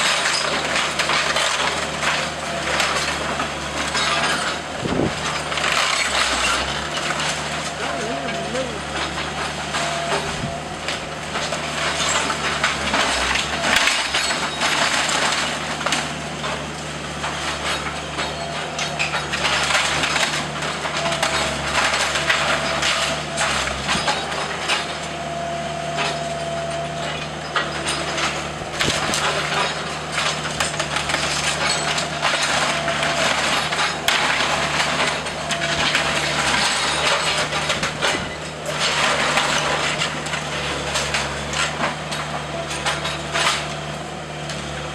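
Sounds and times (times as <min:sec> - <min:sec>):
timber cracking and splintering: 0:00.0 - 0:24.8, 0:27.6 - 0:44.9
machine engine drone: 0:00.0 - 0:44.9.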